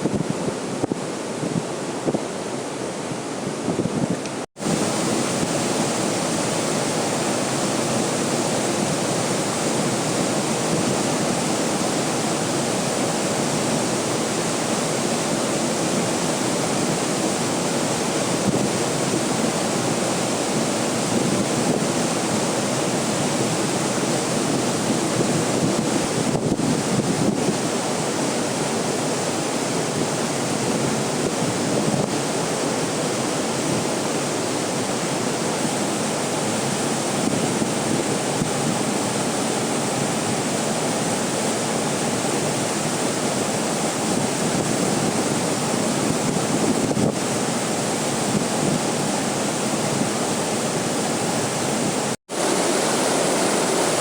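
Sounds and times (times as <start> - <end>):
waterfall rushing: 4.6 - 54.0.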